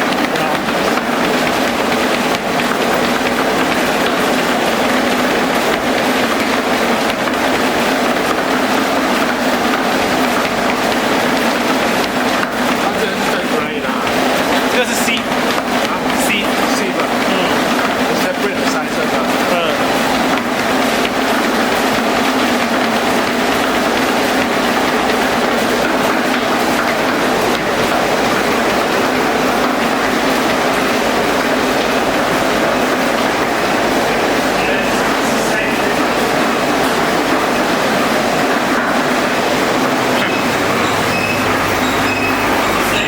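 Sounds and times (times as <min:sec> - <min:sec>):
constant machine hum: 0:00.0 - 0:43.0.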